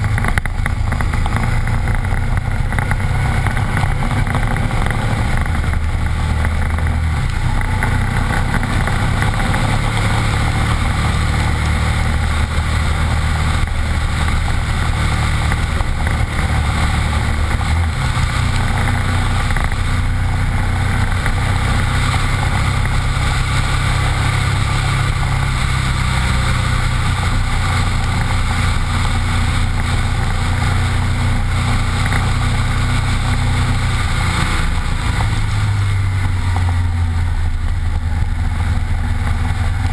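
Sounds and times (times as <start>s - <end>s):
motorcycle engine cruising: 0.0s - 39.9s
tyres on wet road: 0.0s - 39.9s.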